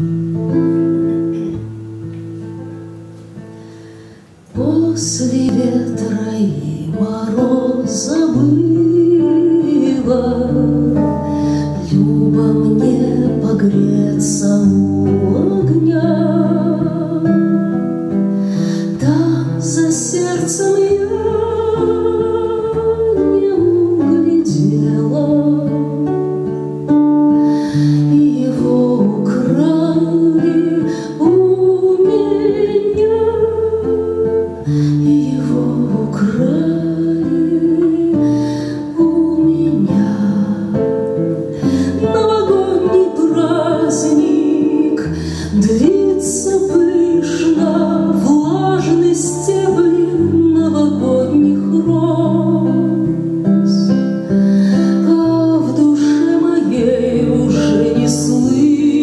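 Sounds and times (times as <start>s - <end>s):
classical guitar plucked chords: 0.0s - 59.0s
woman singing slow song: 0.0s - 59.0s.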